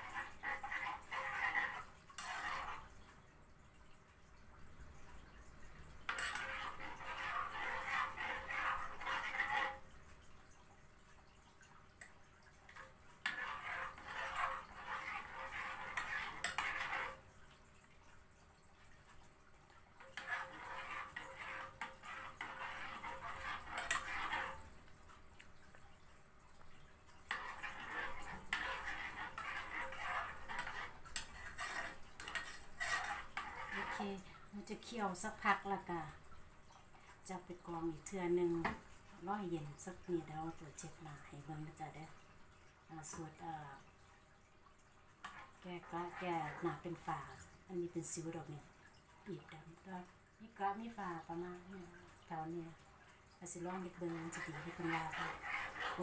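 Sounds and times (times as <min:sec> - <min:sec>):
spoon stirring and scraping saucepan: 0:00.0 - 0:03.3, 0:04.9 - 0:18.0, 0:18.8 - 0:42.3, 0:45.0 - 0:50.1, 0:50.8 - 0:56.0.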